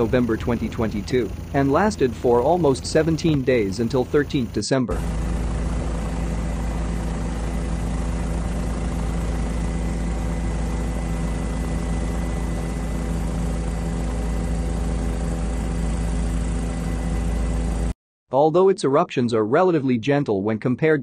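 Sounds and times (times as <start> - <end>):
steady tones: 0.0 - 17.8
aircraft engine drone: 0.0 - 17.9
deep rumble: 0.0 - 17.9.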